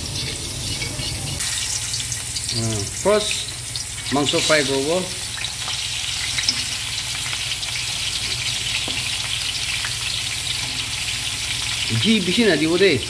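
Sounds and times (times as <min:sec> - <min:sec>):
chicken sizzling in hot fat: 0:00.0 - 0:13.0.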